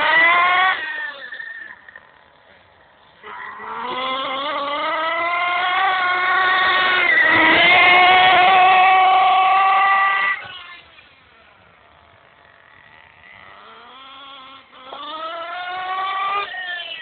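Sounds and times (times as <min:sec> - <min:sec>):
model engine whining at high revs: 0:00.0 - 0:17.0.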